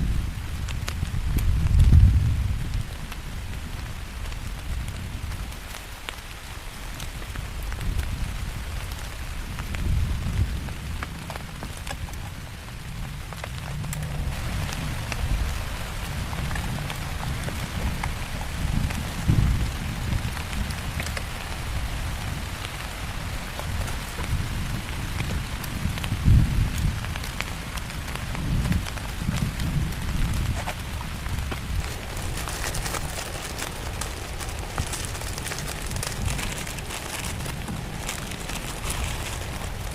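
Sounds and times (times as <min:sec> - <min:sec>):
heavy rain falling: 0:00.0 - 0:39.9
low wind rumble: 0:00.0 - 0:39.9.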